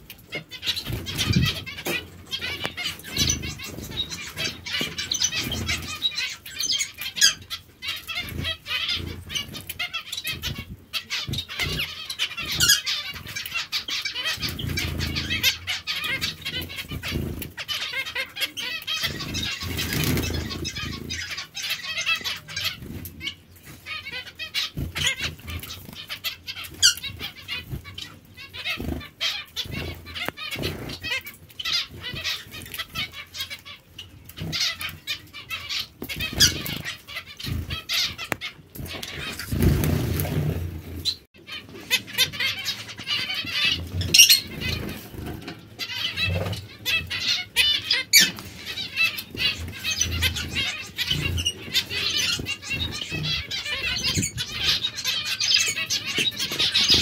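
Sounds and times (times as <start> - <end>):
finches chirping: 0.0 - 57.0
wing fluttering: 0.3 - 57.0.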